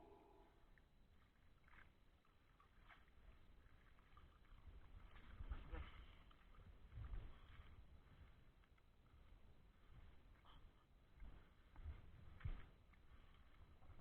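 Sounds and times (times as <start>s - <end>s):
faint low rumble: 0.0s - 14.0s.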